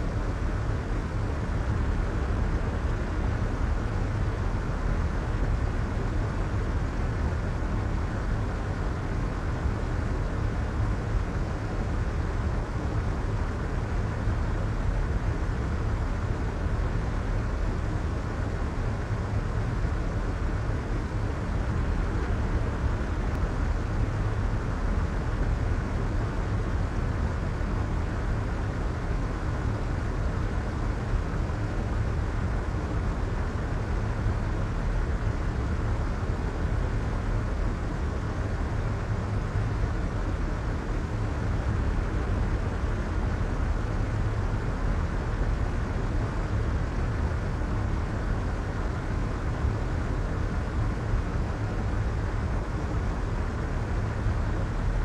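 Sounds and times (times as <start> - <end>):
soft white noise rumble: 0.0 - 55.0.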